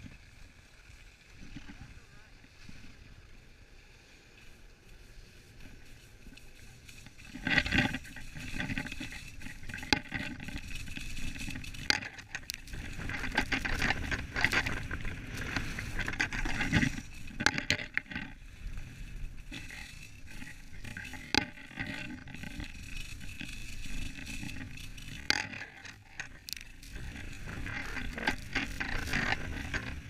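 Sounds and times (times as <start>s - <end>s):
skis scraping on packed snow: 0.0s - 30.0s.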